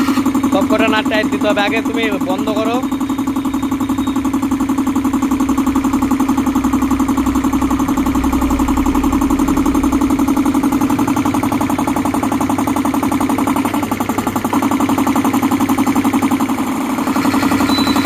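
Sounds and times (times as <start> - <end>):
air compressor running: 0.0 - 18.0.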